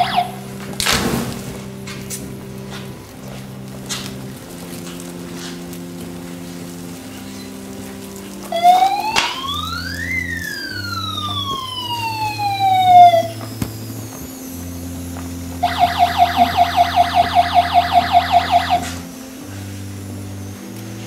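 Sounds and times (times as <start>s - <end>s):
fire truck siren wailing: 0.0s - 21.0s
low electronic music notes: 0.0s - 21.0s.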